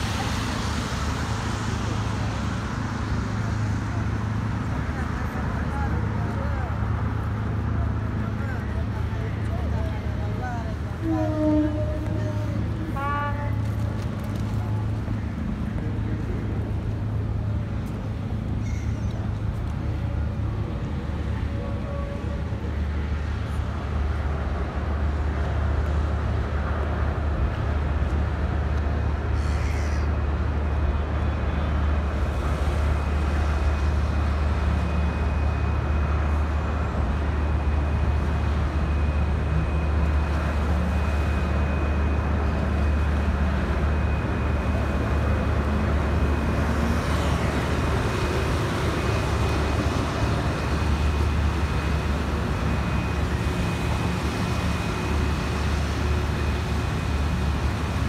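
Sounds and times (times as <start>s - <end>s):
city traffic hum: 0.0s - 58.0s
ferry diesel engines rumbling: 0.0s - 58.0s.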